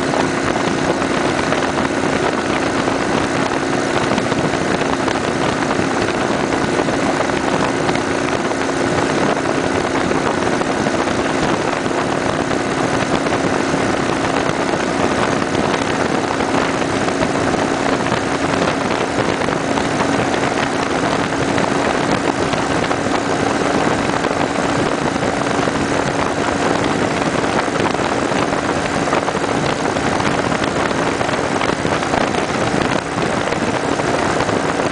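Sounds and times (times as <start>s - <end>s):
motorcycle engine drone: 0.0s - 34.9s
road noise: 0.0s - 34.9s
wind rush: 0.0s - 34.9s.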